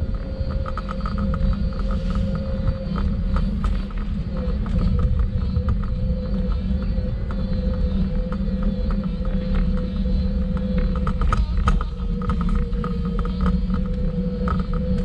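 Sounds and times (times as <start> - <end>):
tram wheels rumbling on rails: 0.0 - 15.0
tram whine: 0.0 - 15.0.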